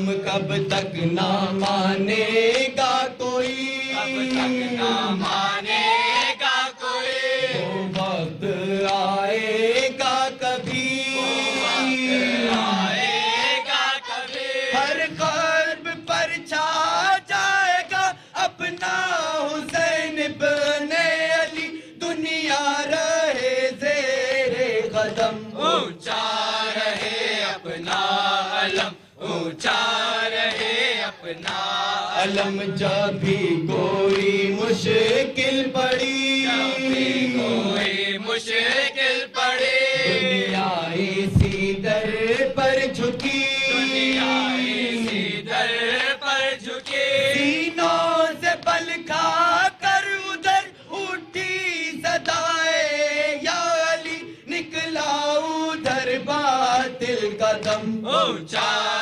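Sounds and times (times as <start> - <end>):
lead reciter at microphone: 0.0 - 59.0
young men chanting a lament: 0.0 - 59.0.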